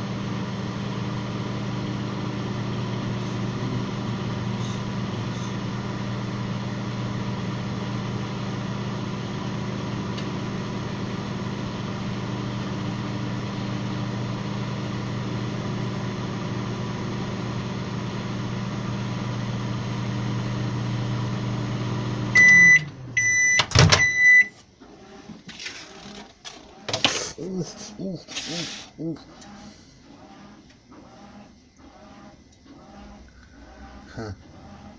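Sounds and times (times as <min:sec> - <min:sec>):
microwave oven humming: 0:00.0 - 0:34.9.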